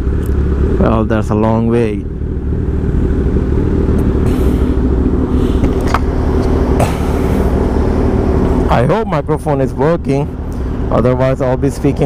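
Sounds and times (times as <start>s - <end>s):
motorcycle engine idling: 0.0s - 12.0s
road traffic: 0.0s - 12.0s.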